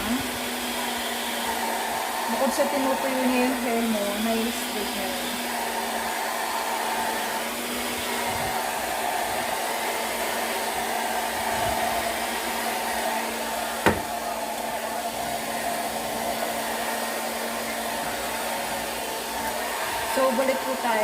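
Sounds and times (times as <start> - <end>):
hair dryer running: 0.0 - 21.0.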